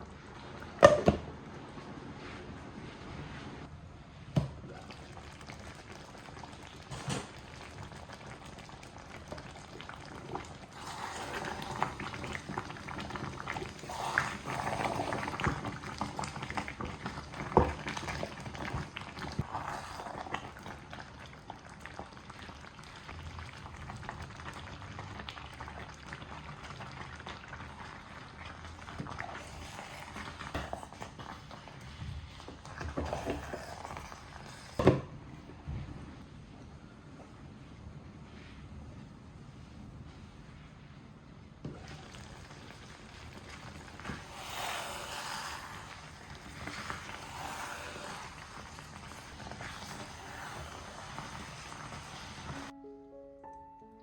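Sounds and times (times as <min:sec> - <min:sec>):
liquid bubbling in a pot: 0:00.0 - 0:52.7.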